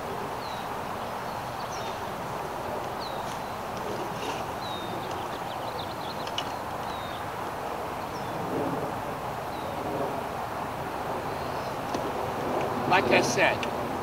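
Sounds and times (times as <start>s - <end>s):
birds chirping: 0.0s - 8.4s, 10.9s - 13.7s.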